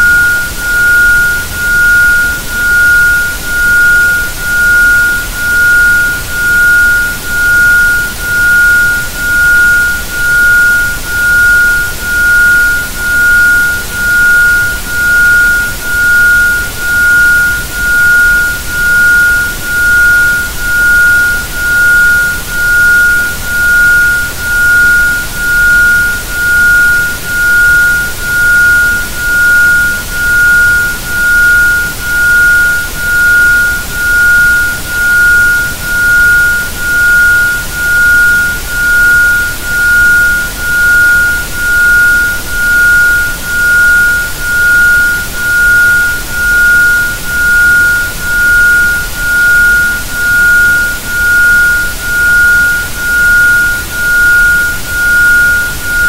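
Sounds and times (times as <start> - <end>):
pulsing sine tone: 0.0 - 56.0.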